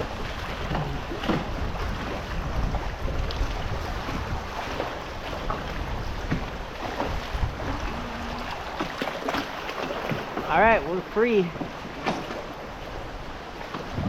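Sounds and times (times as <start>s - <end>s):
wind buffeting microphone: 0.0s - 10.8s, 11.6s - 14.0s.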